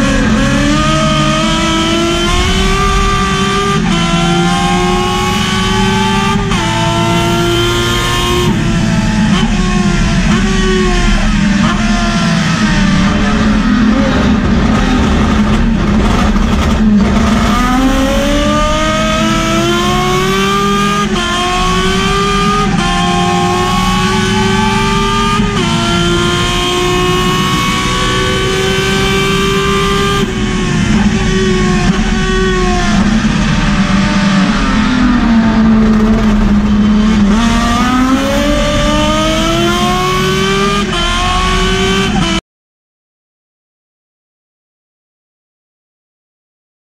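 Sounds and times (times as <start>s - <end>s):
race car engine revving: 0.0s - 42.4s.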